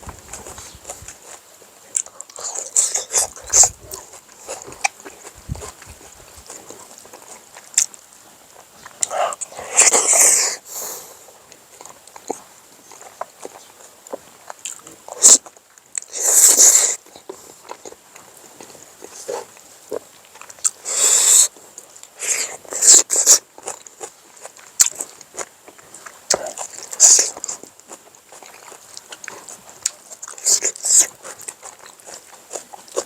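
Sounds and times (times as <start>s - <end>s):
person chewing and smacking: 0.0s - 10.6s, 11.3s - 33.0s.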